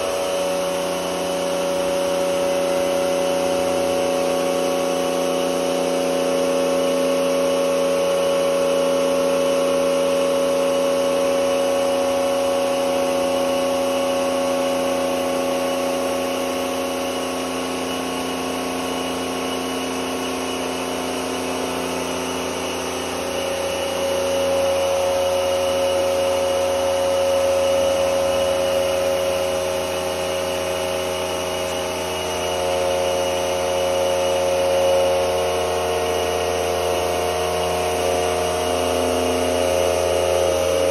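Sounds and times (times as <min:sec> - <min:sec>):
pump machine hum: 0:00.0 - 0:40.9.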